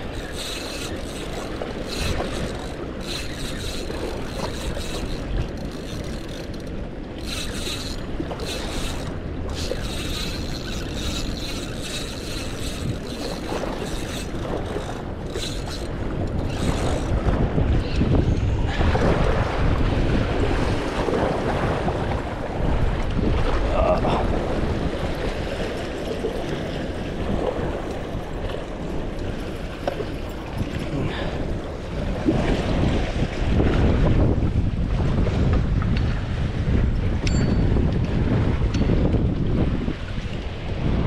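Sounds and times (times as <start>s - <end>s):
moving water: 0.0s - 41.0s
wind buffeting microphone: 0.0s - 41.0s.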